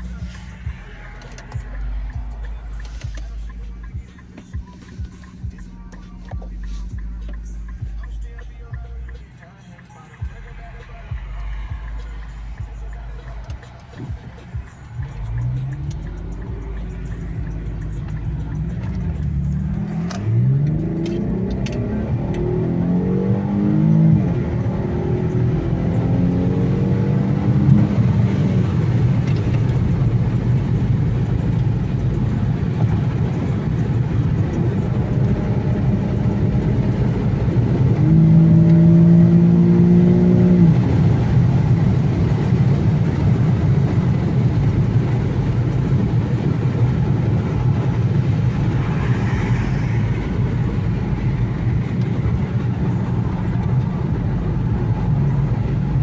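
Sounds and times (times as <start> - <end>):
car engine accelerating: 0.0 - 56.0
road rumble: 0.0 - 56.0.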